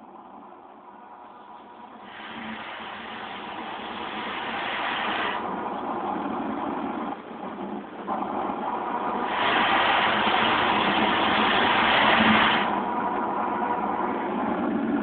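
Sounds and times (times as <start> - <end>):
car wash spraying water: 0.0 - 15.0.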